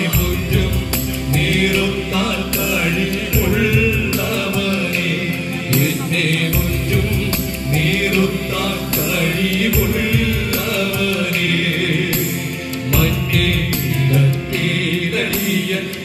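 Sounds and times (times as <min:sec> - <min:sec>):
instrumental backing with bass: 0:00.0 - 0:16.0
men singing through pa: 0:00.0 - 0:16.0.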